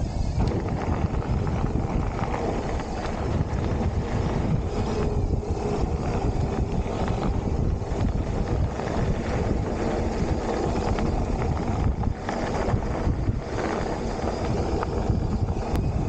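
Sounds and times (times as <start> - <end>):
bike tyres rolling on dirt trail: 0.0 - 16.0
wind on microphone: 0.0 - 16.0.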